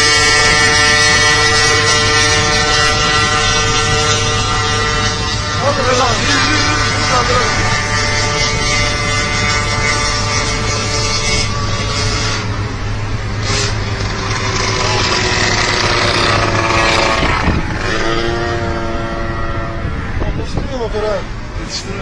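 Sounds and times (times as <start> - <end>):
car engine hum: 0.0 - 22.0
tyre and wind noise: 0.0 - 22.0.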